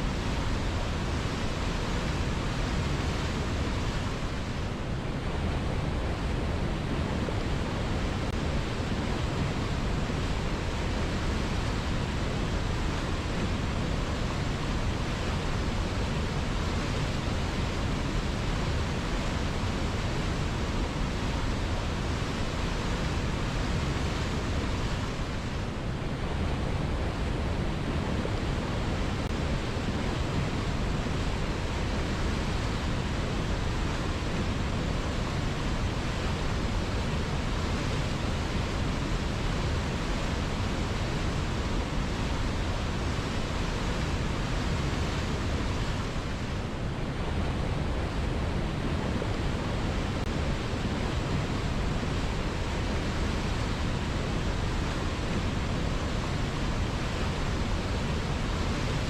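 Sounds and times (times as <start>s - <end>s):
river water flowing: 0.1s - 59.0s.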